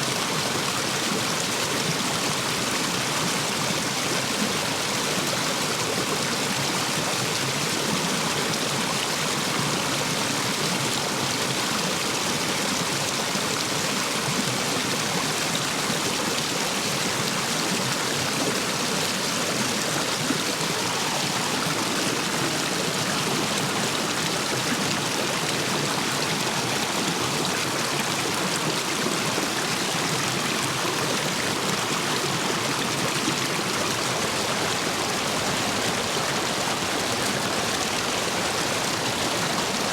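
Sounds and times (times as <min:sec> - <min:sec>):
stream water rushing over stones: 0:00.0 - 0:39.9.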